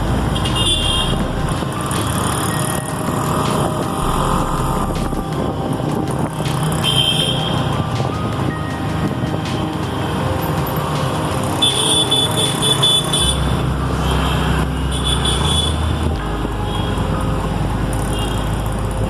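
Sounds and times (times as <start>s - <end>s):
passing car and motorbike engines: 0.0s - 19.0s.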